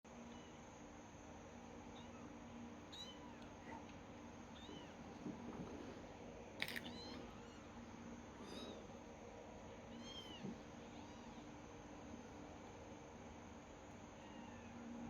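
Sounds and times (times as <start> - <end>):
faint steady hum: 0.1 - 15.0.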